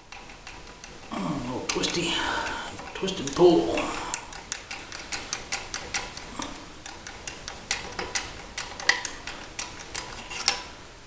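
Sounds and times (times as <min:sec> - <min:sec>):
metallic clicks and ticks: 0:00.0 - 0:10.7.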